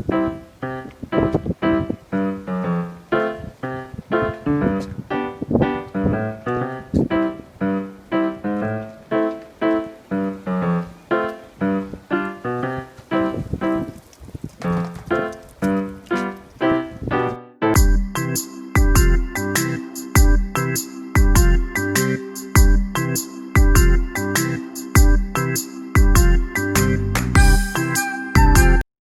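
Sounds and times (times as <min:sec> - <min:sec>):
keyboard playing single notes: 0:00.0 - 0:13.9, 0:16.1 - 0:28.9.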